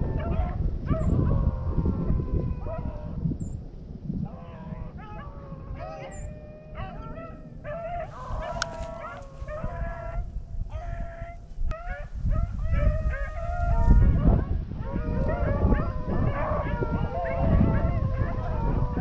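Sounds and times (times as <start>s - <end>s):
dogs baying: 0.0s - 3.2s, 4.3s - 19.0s
wind rumble on microphone: 0.0s - 19.0s.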